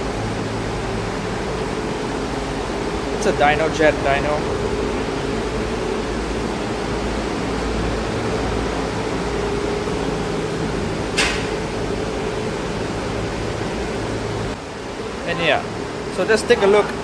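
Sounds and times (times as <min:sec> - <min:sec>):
cooling fan whirring: 0:00.0 - 0:17.0.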